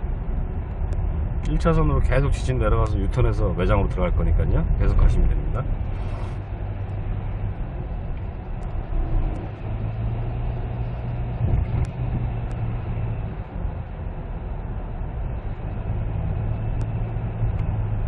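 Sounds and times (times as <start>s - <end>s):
low engine drone: 0.0s - 18.0s
tyre and road noise: 0.0s - 18.0s.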